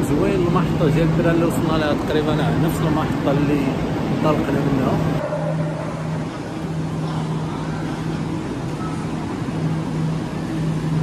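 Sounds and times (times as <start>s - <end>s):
low hum: 0.0s - 11.0s
steady rush of noise: 0.0s - 11.0s.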